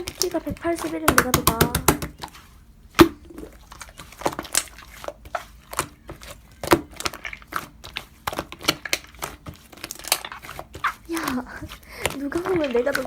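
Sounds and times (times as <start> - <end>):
slime clicking and crackling: 0.0 - 13.0.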